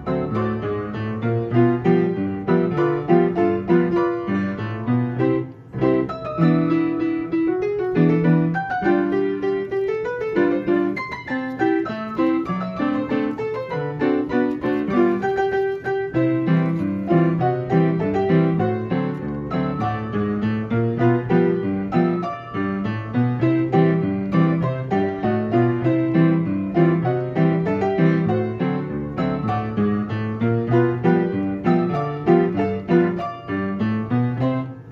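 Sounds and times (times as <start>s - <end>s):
player piano march: 0.0s - 34.9s.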